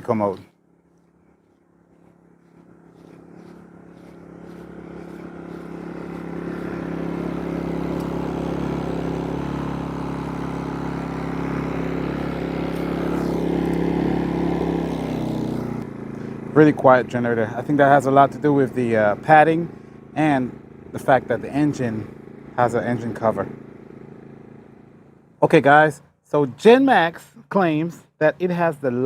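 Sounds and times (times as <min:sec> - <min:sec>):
generator running: 0:00.0 - 0:29.0.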